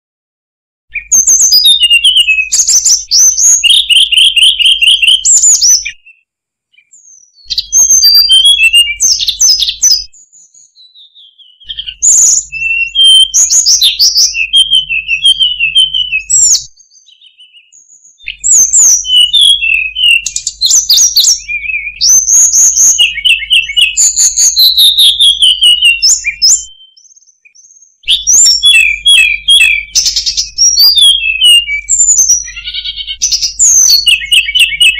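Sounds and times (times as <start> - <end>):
bird warbling song: 0.9 - 34.9.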